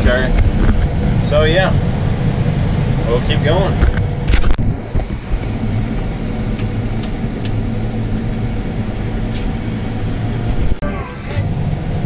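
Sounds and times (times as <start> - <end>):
combine harvester drone: 0.0 - 12.0.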